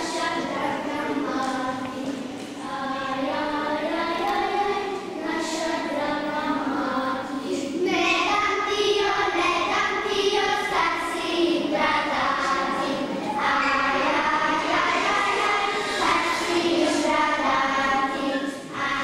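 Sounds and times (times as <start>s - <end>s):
young children singing: 0.0s - 19.0s.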